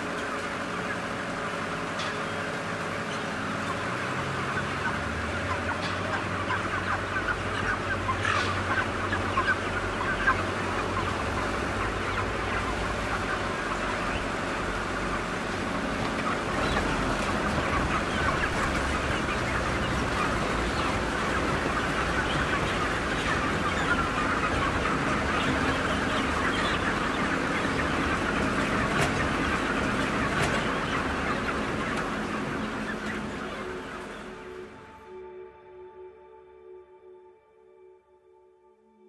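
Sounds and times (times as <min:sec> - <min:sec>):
chickens clucking and squawking: 0:00.0 - 0:35.4
machinery humming: 0:00.0 - 0:36.8.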